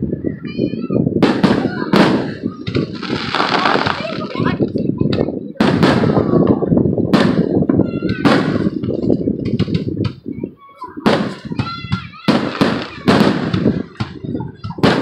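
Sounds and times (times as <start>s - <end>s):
fireworks booming: 1.2s - 10.2s, 11.0s - 15.0s.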